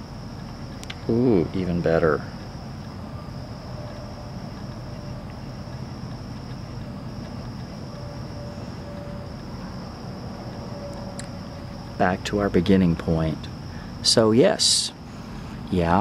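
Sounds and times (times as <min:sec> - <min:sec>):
high-pitched insect trill: 0:00.0 - 0:16.0
low background hum: 0:00.0 - 0:16.0.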